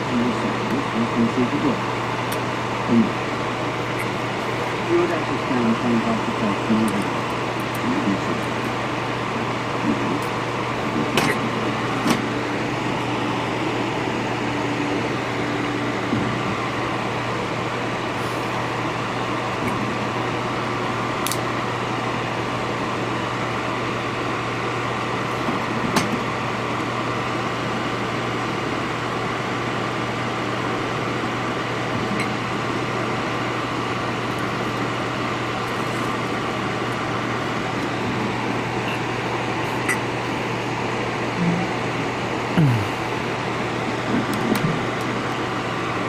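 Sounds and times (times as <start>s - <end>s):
electric fan whirring: 0.0s - 46.0s.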